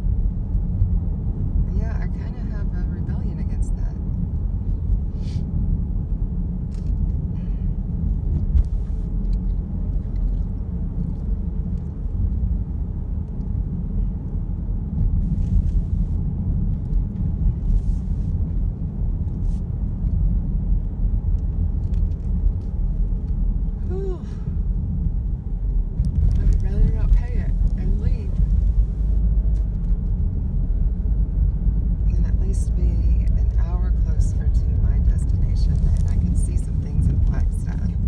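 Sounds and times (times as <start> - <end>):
car road rumble and engine: 0.0 - 38.0.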